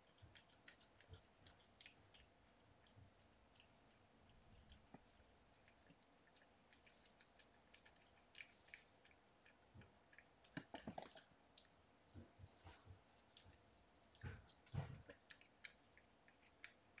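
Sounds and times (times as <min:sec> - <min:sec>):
kittens rustling and scuffling: 0:02.0 - 0:17.0.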